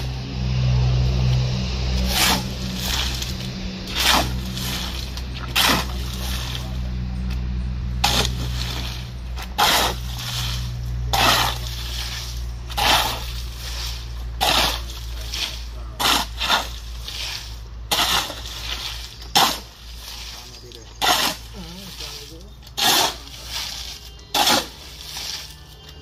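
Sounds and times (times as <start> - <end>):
low engine hum: 0.0 - 26.0
shovel scraping wet concrete: 2.0 - 6.8, 8.0 - 26.0.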